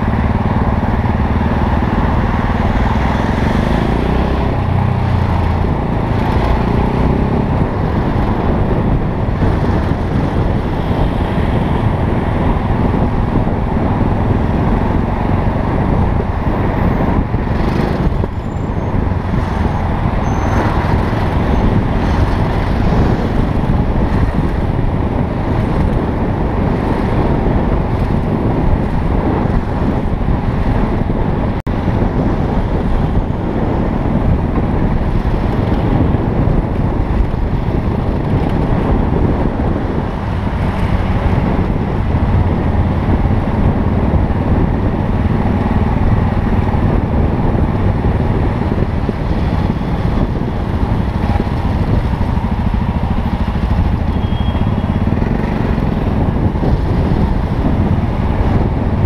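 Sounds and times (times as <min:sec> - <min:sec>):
motorcycle engine rumble: 0:00.0 - 0:59.0
wind noise on microphone: 0:00.0 - 0:59.0.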